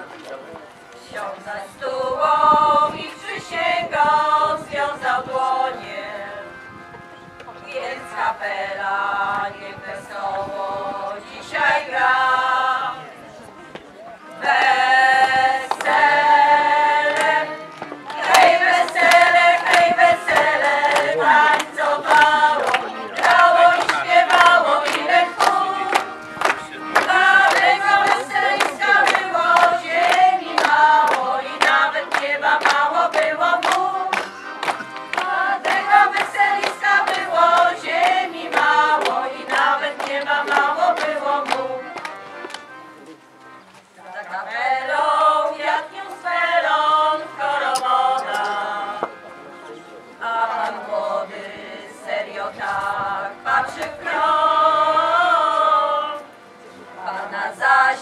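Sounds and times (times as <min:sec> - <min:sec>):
accordion: 0:00.0 - 0:58.0
women's choir singing in harmony: 0:01.0 - 0:06.6, 0:07.6 - 0:13.3, 0:14.4 - 0:42.2, 0:44.2 - 0:49.2, 0:50.2 - 0:58.0.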